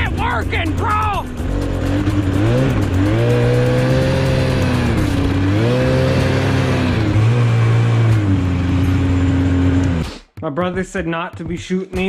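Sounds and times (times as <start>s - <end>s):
vehicle engine revving: 0.0s - 10.2s.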